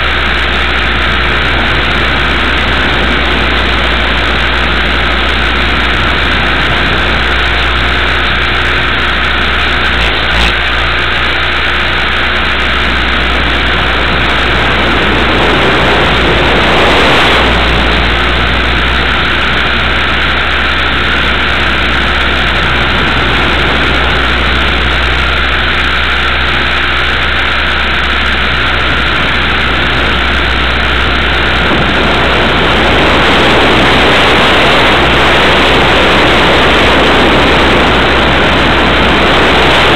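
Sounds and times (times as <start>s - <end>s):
helicopter motor and rotor whir: 0.0s - 39.9s.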